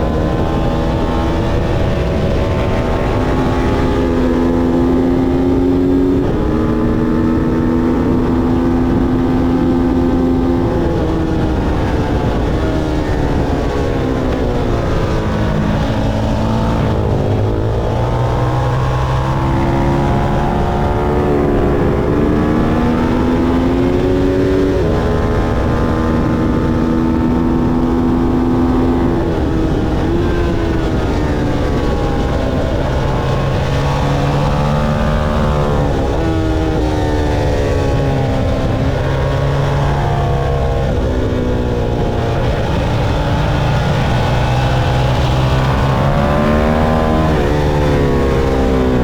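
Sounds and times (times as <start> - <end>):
motorcycle engine revving: 0.0 - 49.0
steady rush of noise: 0.0 - 49.0.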